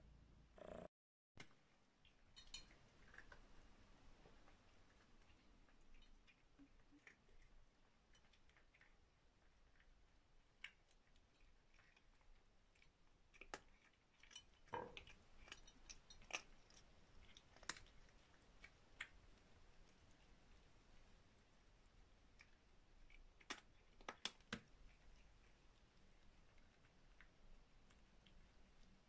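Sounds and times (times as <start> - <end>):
cats crunching food: 1.8 - 29.0.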